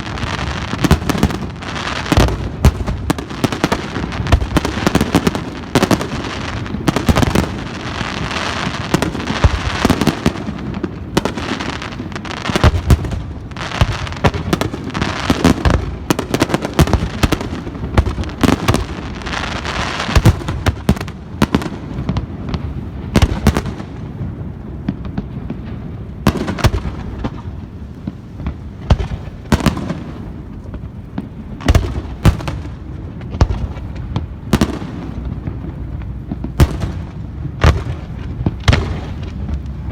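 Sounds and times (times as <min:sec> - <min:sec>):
firework bangs: 0:00.0 - 0:39.9
firework crackling: 0:00.0 - 0:39.9.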